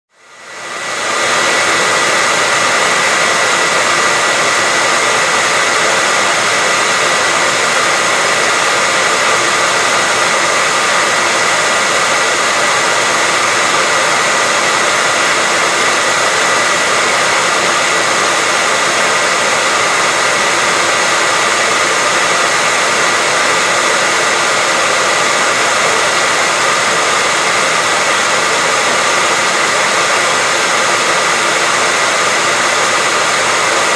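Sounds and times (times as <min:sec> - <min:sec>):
hair dryer running: 0:00.1 - 0:33.9.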